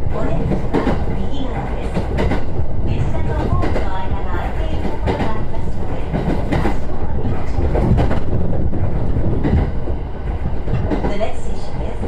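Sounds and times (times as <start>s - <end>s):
wheels clacking over rail joints: 0.0s - 11.6s
train car low rumble: 0.0s - 12.0s.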